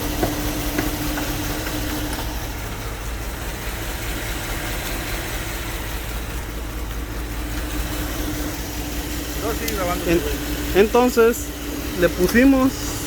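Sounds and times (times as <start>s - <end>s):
engine idling with misfire: 0.0s - 13.0s.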